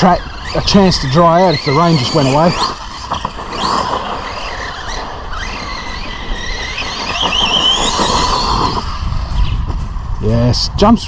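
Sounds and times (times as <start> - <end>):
electric motor whining: 0.0 - 10.2.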